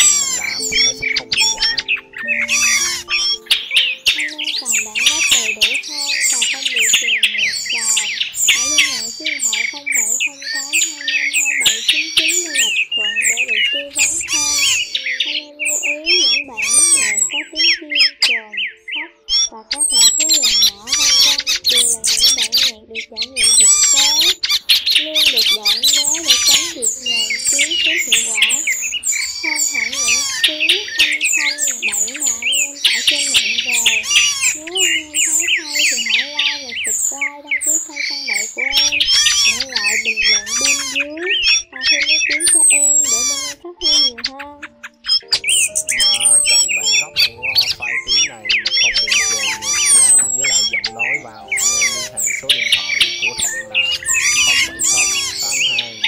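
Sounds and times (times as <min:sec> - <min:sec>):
high chirps whistles and trills: 0:00.0 - 0:56.0
lower bending calls: 0:00.0 - 0:56.0
thrushes calling: 0:00.0 - 0:56.0.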